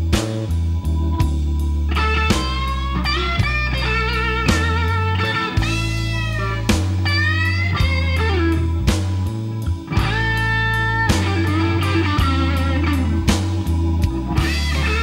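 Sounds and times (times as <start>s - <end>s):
electric guitar lead lines: 0.0s - 15.0s
steady low bass: 0.0s - 15.0s.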